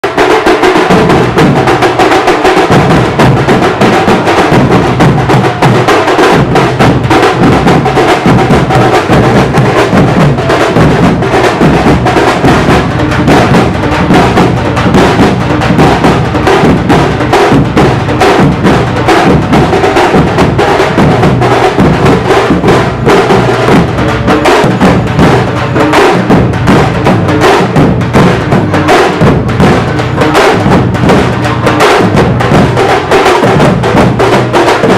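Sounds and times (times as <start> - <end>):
frame drums struck with sticks: 0.0 - 34.9.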